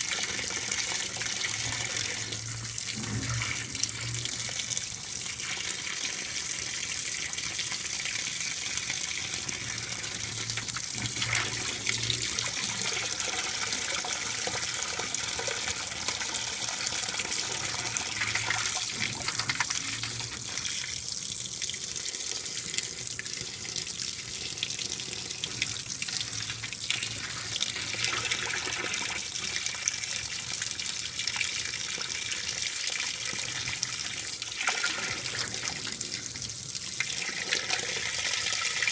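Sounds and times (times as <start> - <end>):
water pouring into washer tub: 0.0 - 38.9.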